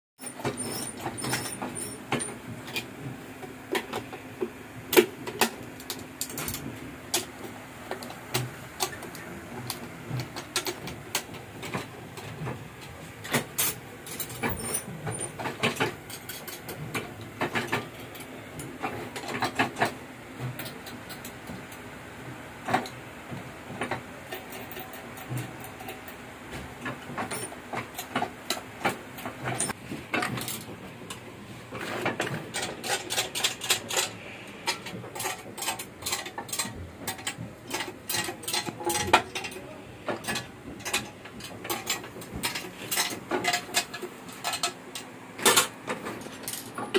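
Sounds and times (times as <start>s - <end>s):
printing press running: 0.2s - 46.9s.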